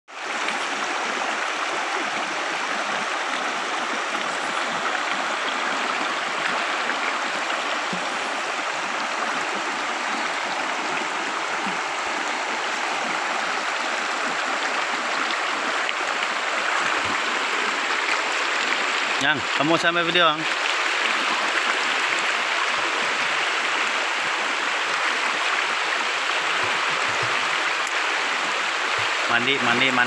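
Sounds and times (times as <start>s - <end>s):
river rushing over rocks: 0.1s - 30.0s.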